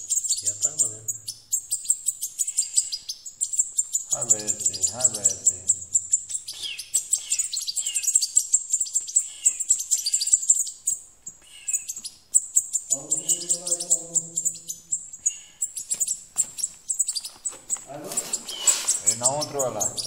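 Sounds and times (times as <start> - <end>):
fledglings chirping: 0.0 - 20.0.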